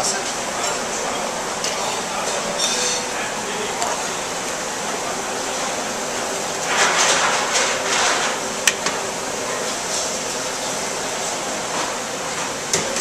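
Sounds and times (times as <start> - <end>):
kitchen ventilation hiss: 0.0 - 13.0.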